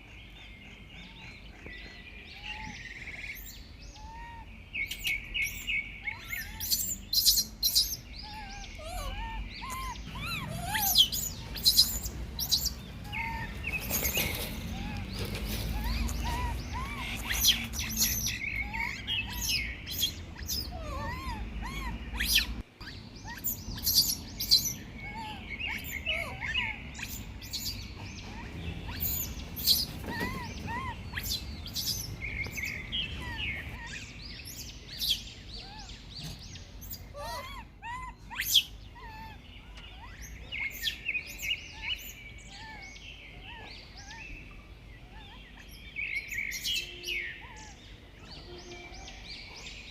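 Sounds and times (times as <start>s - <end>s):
high chirping calls: 0.0s - 49.9s.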